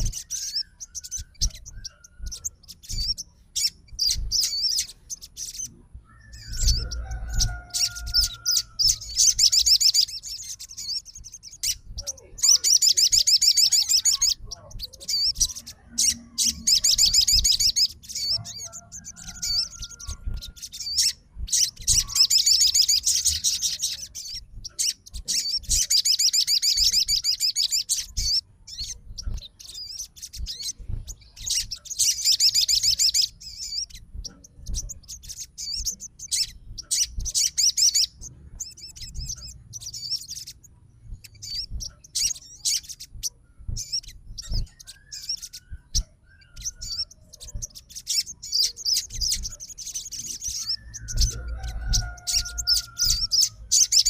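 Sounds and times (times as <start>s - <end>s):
bird high chattering song: 0.0s - 54.0s.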